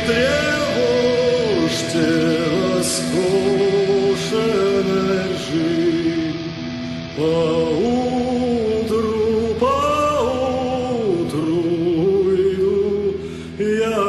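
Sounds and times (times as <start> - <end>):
low musical backing: 0.0 - 14.0
person singing slow melody: 0.0 - 14.0.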